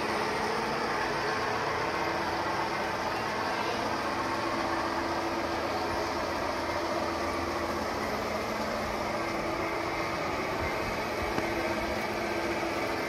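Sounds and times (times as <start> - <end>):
diesel engine rumble: 0.0 - 13.0
train wheels on track: 0.0 - 13.0.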